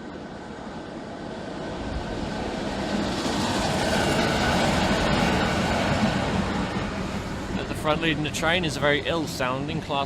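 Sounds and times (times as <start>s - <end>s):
electric locomotive hum: 0.0s - 10.0s
train wheels on rail: 0.0s - 10.0s.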